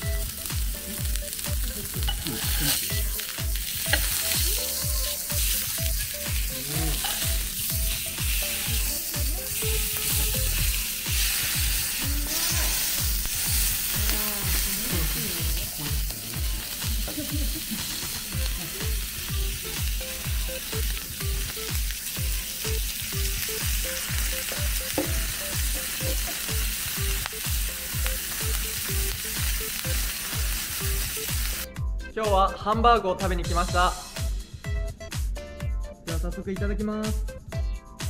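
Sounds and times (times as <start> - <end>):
meat sizzling on hot iron plate: 0.0 - 31.6
background music with low beat: 0.0 - 38.0.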